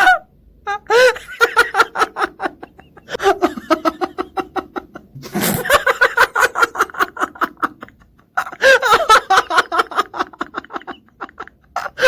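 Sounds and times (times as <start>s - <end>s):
person laughing uncontrollably: 0.0s - 12.0s.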